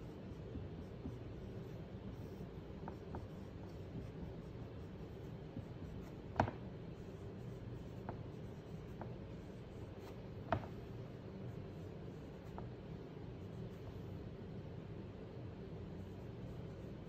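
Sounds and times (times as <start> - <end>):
handwriting sounds: 0.0 - 17.0
steady low hum: 0.0 - 17.0.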